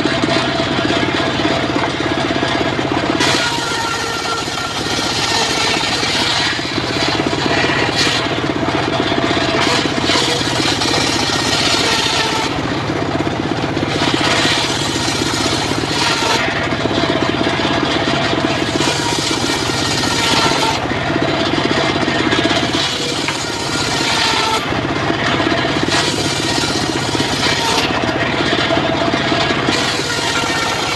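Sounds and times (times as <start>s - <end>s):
saw blade rasping through wood: 0.0s - 30.9s
sawmill engine drone: 0.0s - 30.9s.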